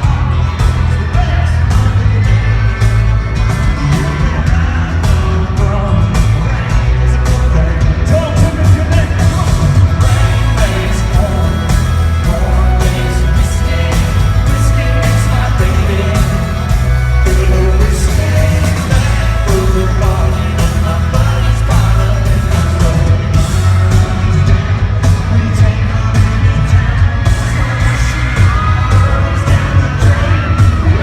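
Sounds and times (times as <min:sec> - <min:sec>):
crowd yelling and whooping: 0:00.0 - 0:31.0
lead singer singing: 0:00.0 - 0:31.0
live country band playing: 0:00.0 - 0:31.0.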